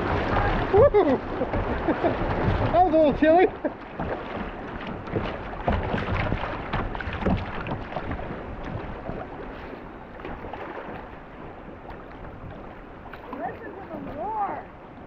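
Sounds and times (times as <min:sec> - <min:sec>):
small splashes and knocks: 0:00.0 - 0:14.7
river water rushing and splashing: 0:00.0 - 0:15.0.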